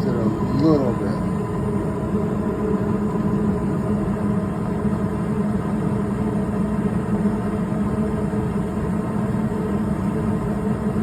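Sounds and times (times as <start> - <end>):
gas furnace humming: 0.0 - 11.0.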